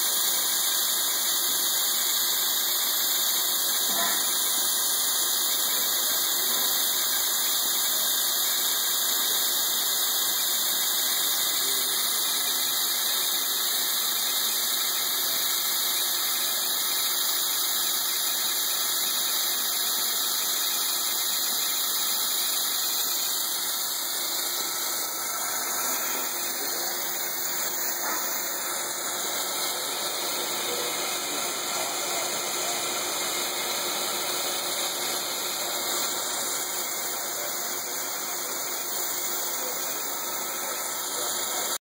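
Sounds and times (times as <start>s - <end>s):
milling machine cutting metal: 0.0s - 41.8s.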